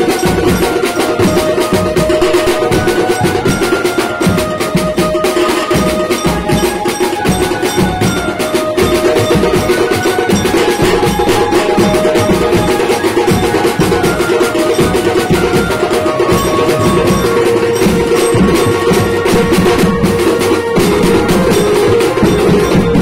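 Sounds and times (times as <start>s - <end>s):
fast percussion beat: 0.0s - 23.0s.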